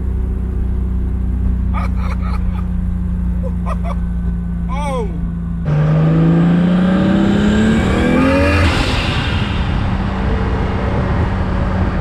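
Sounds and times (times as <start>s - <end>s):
turbocharged engine accelerating: 0.0s - 12.0s.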